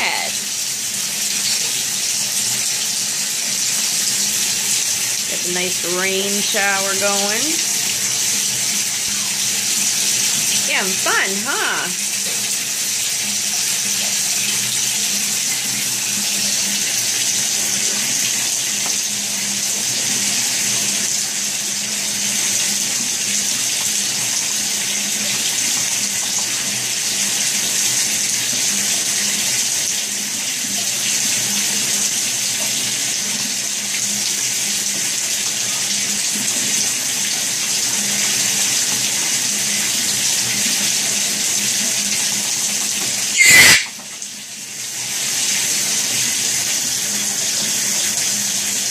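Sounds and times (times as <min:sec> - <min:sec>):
shower spray running: 0:00.0 - 0:48.9.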